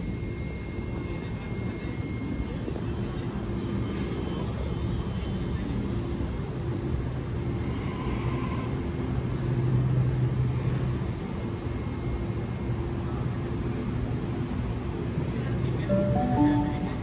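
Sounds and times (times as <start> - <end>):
electric train hum and rumble: 0.0 - 17.0.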